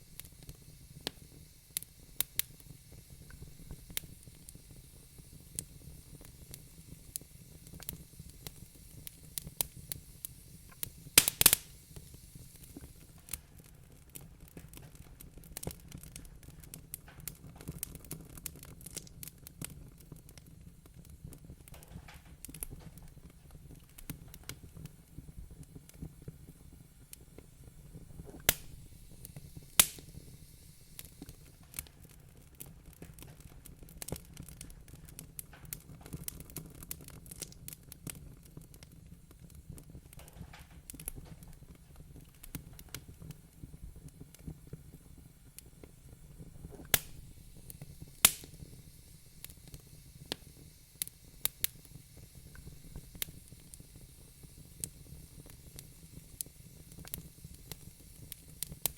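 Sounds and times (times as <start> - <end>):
low fire rumble: 0.0 - 58.9
wood fire crackling: 0.0 - 58.9.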